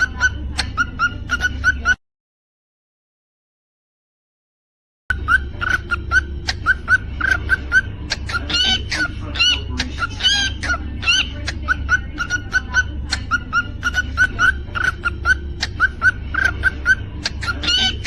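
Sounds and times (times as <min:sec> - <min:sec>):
cockatiel chirping: 0:00.0 - 0:02.0, 0:05.1 - 0:18.0.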